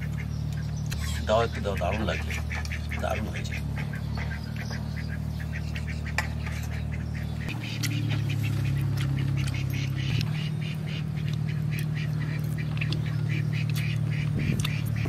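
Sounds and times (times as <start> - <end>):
low hum: 0.0 - 15.0
rapid animal calls: 0.0 - 15.0.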